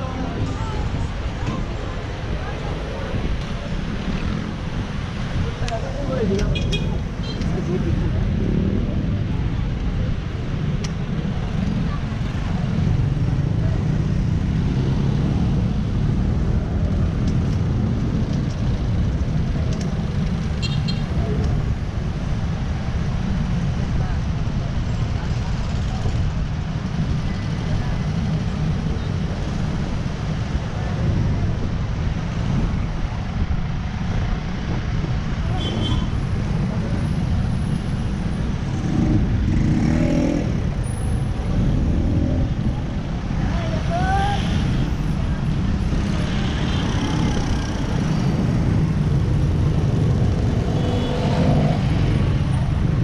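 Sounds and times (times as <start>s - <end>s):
road and traffic noise: 0.0s - 53.0s.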